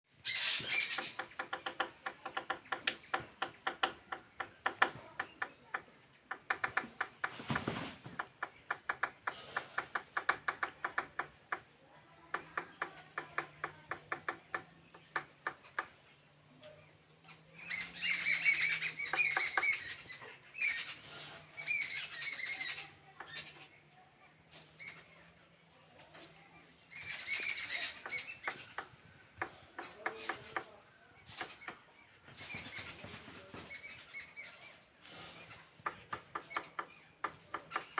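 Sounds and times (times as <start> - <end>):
birds chattering harshly: 0.1 - 37.9
woodpecker pecking: 0.2 - 7.5, 8.1 - 23.9, 24.6 - 37.9.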